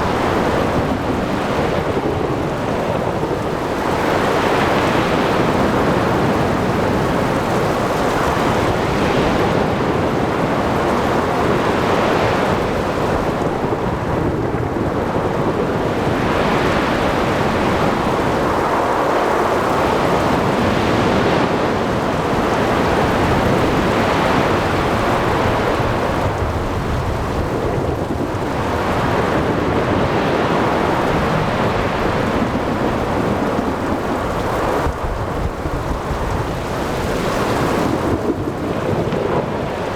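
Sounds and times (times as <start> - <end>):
waves: 0.0 - 39.9
wind: 0.0 - 39.9.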